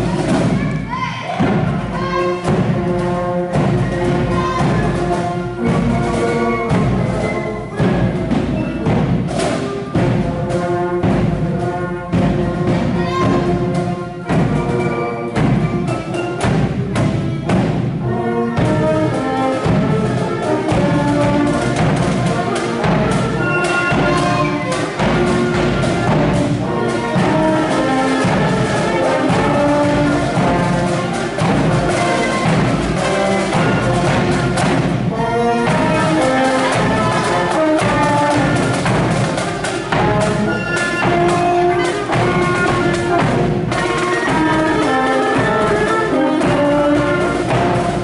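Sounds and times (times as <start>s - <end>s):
marching band playing march: 0.0s - 48.0s.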